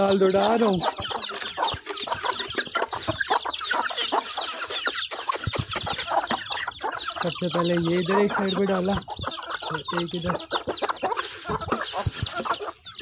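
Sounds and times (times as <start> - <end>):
chicks peeping: 0.0 - 13.0
hens clucking: 0.0 - 13.0.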